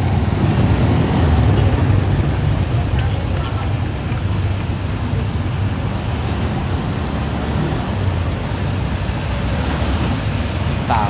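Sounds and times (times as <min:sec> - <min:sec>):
low rumble of street traffic: 0:00.0 - 0:11.0.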